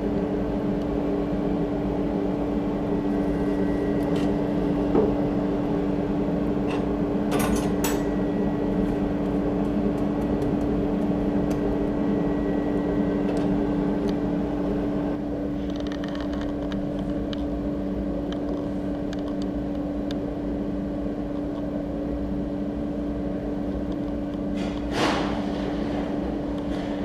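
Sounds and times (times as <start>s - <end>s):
forge blower humming: 0.0s - 27.0s.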